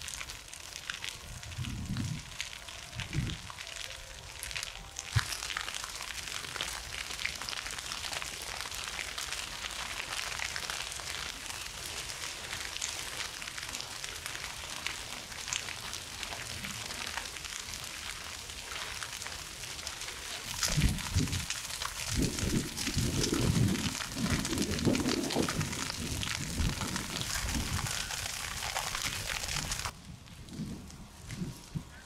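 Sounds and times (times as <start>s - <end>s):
grass fire crackling: 0.0s - 32.0s
sharp crack of fire: 0.0s - 32.0s.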